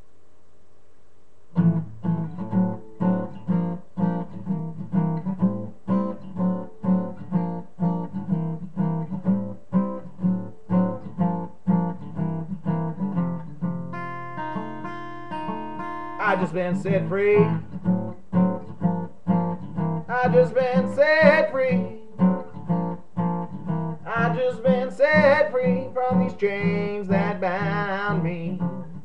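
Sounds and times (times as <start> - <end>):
faint room hiss: 0.0 - 29.0
acoustic guitar strumming: 1.5 - 29.0.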